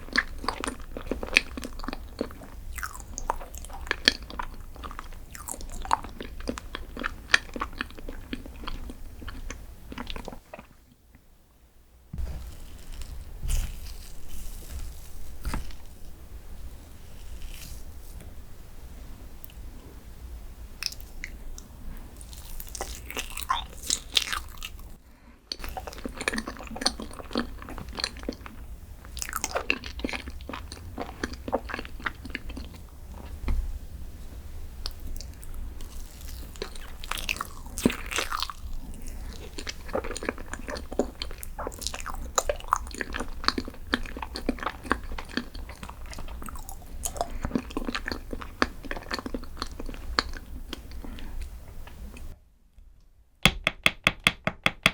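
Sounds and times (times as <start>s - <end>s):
person chewing with crisp crunches: 0.0s - 11.0s, 12.2s - 18.2s, 20.7s - 33.5s, 34.8s - 52.4s.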